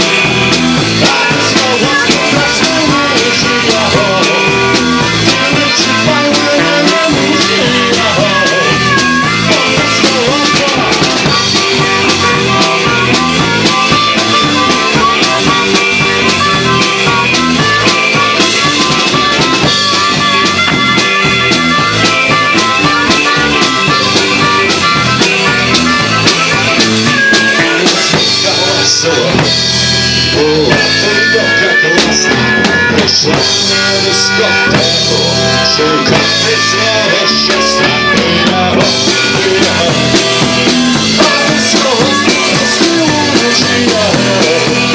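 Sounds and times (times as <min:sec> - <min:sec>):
guitar lead bending notes: 0:00.0 - 0:44.9
rock band playing: 0:00.0 - 0:44.9
steady drum beat: 0:00.0 - 0:44.9.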